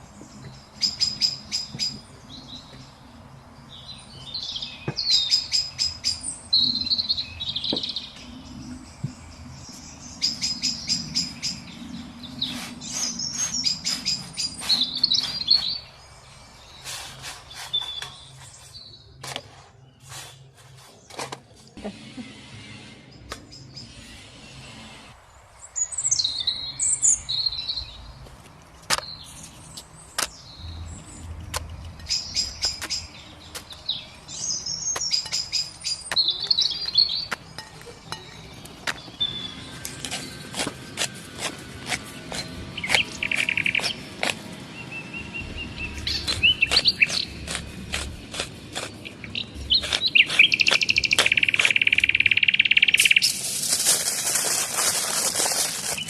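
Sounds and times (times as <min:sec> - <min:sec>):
small birds chirping: 0:00.0 - 0:21.8, 0:23.1 - 0:56.0.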